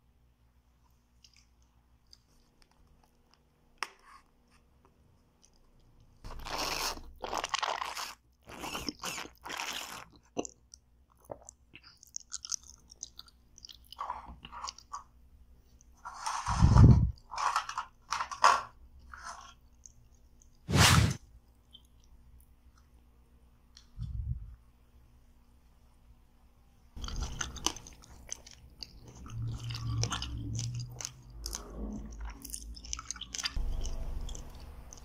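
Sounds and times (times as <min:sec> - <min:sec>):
chewing and crunching food: 0:00.9 - 0:23.0, 0:27.0 - 0:35.0.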